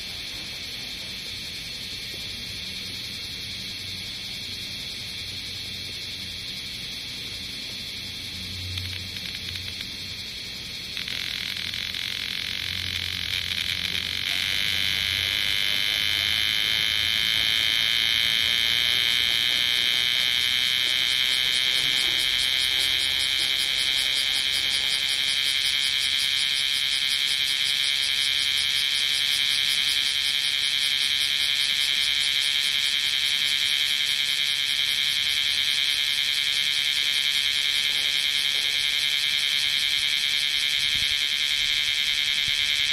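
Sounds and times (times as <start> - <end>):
cicada pulsing buzz: 0.0 - 42.9.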